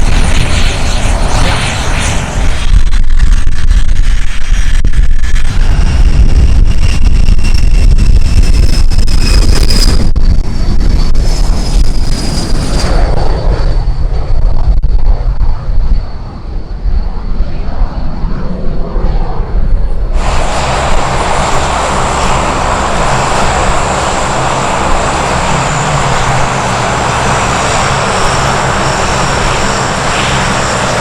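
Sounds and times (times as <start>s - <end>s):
high whine falling in pitch: 0.0s - 31.0s
jet engine rumble: 0.0s - 31.0s.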